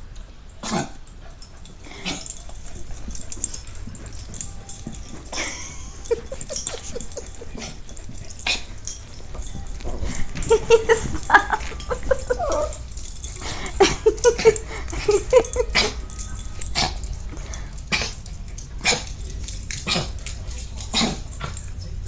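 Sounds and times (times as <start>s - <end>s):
dog vocalizing: 1.8s - 21.7s.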